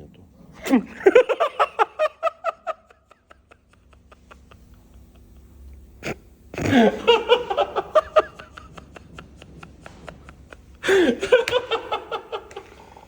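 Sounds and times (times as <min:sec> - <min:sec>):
man laughing loudly: 0:00.7 - 0:13.0.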